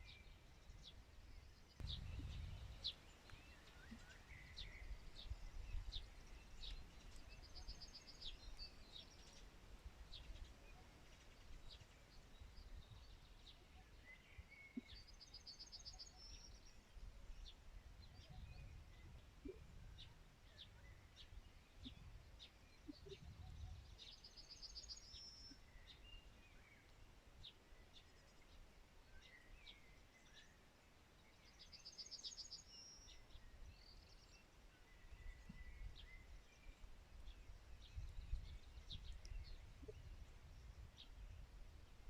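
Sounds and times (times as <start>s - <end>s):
faint steady background noise: 0.0s - 42.0s.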